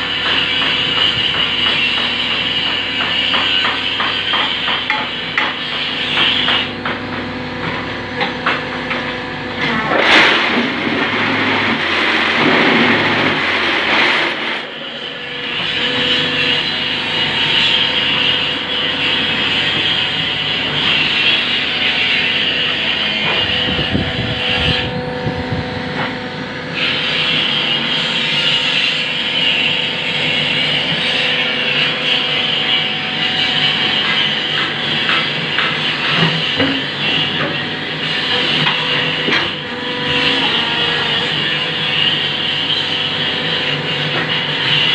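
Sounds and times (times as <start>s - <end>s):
motor and pump hum: 0.0s - 44.9s.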